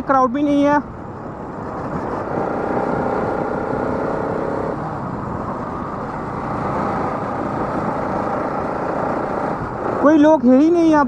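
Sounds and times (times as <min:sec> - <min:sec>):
road and wind rumble: 0:00.0 - 0:11.0
motorcycle engine running: 0:01.2 - 0:10.7.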